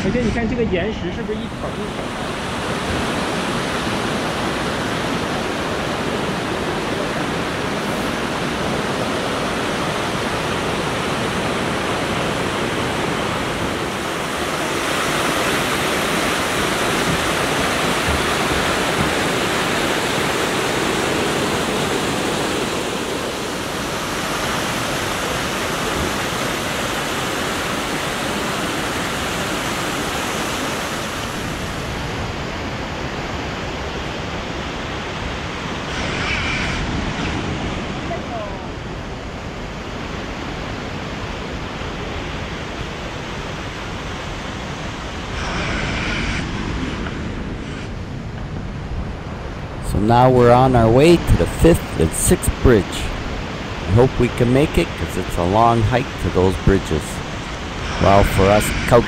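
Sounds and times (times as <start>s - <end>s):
river water rushing through gorge: 0.1s - 59.0s.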